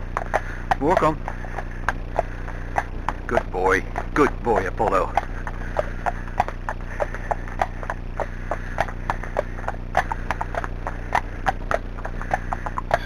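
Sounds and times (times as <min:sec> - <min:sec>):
horse hooves on tarmac: 0:00.0 - 0:13.0.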